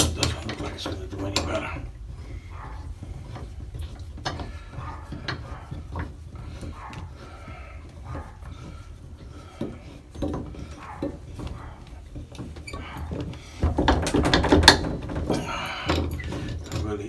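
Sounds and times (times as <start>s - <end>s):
metal clicks and scraping: 0.0s - 17.0s.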